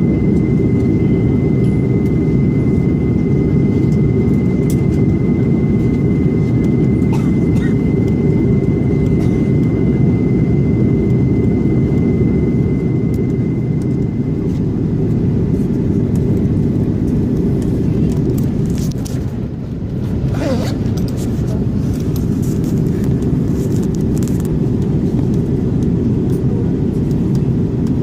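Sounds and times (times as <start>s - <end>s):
jet engines rumbling in cabin: 0.0s - 28.0s.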